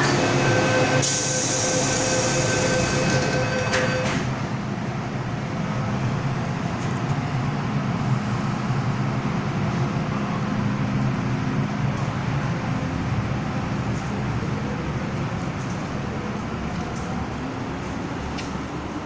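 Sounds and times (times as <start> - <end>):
metro train rumbling: 0.0 - 19.0.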